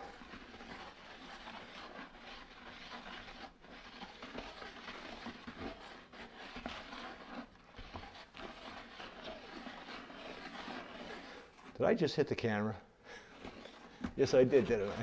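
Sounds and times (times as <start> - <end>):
wooden stick scraping in plastic bucket: 0.0 - 15.0.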